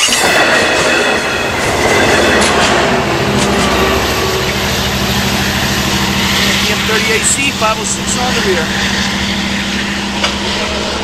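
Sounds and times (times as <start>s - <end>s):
train wheel squeal: 0.0s - 11.0s
train wheels clattering over rails: 0.0s - 11.0s
steady low hum: 0.2s - 11.0s.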